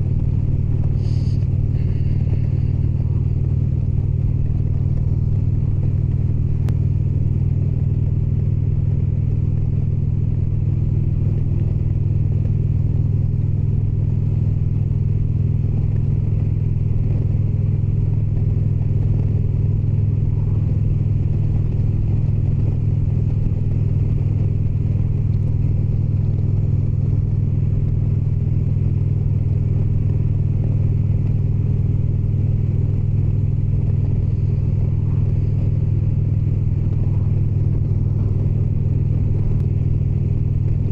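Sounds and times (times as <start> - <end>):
motorcycle engine cruising: 0.0 - 40.9
road rumble: 0.0 - 40.9.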